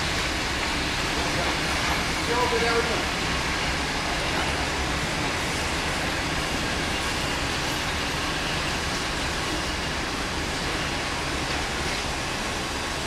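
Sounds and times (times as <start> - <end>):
train coaches rumbling: 0.0 - 13.0.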